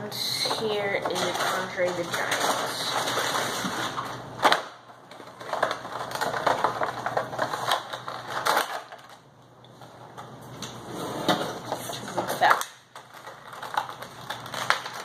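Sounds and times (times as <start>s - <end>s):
plastic and cardboard crackling: 0.0s - 10.8s, 11.6s - 15.0s.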